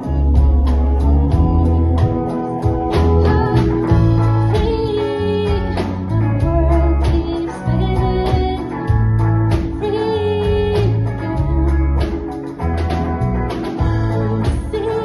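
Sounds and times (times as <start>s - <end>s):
woman singing: 0.0s - 12.4s, 13.6s - 15.0s
bass guitar: 0.0s - 15.0s
drums: 0.0s - 15.0s
electric guitar: 0.0s - 15.0s.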